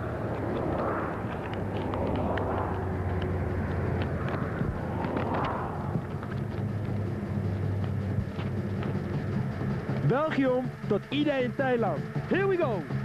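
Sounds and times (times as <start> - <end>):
low engine hum: 0.0 - 13.0
vehicles passing: 0.0 - 13.0.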